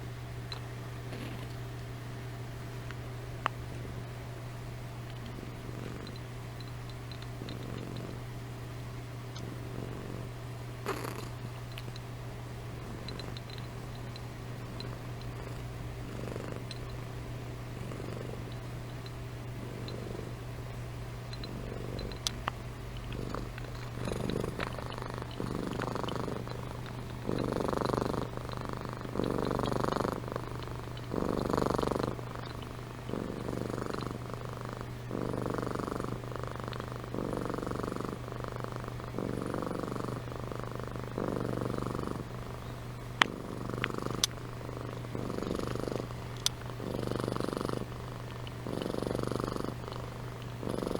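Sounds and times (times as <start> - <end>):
cat purring: 0.0 - 1.7, 3.4 - 4.2, 5.0 - 8.3, 9.3 - 50.9.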